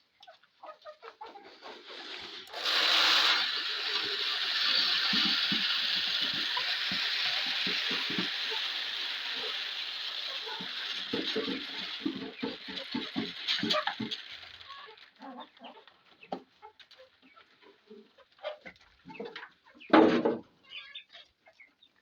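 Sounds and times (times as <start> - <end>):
dry chicken feed pouring: 0.6 - 19.7.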